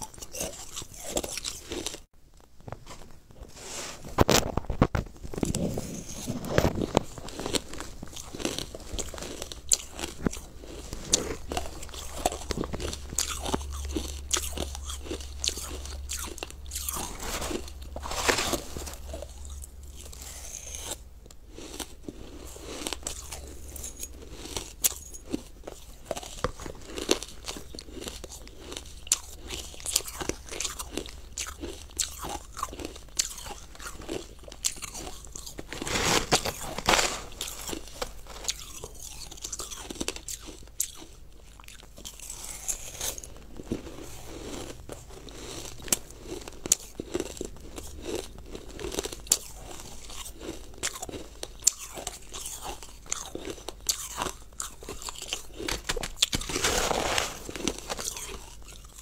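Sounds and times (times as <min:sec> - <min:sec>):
chewing crunchy frozen food: 0:00.0 - 0:59.0.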